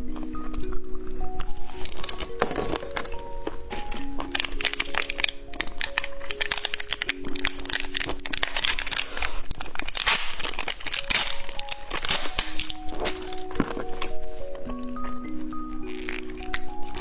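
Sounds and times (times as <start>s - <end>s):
light background music: 0.0s - 17.0s
plastic candy wrapper crinkling: 0.0s - 17.0s.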